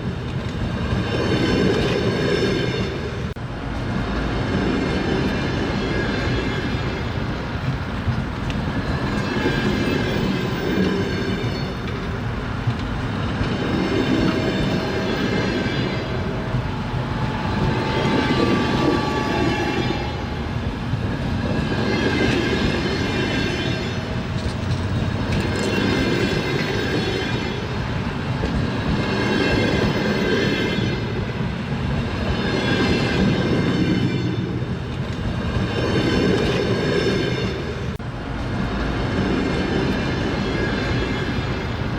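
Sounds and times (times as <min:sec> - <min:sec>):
train wheels clattering on rails: 0:00.0 - 0:41.9.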